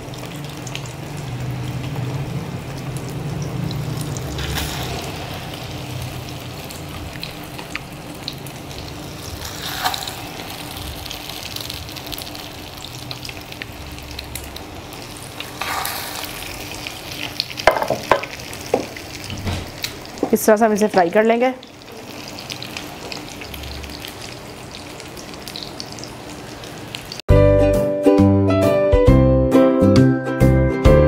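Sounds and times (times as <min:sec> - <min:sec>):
cutlets sizzling in oil: 0:00.0 - 0:27.2.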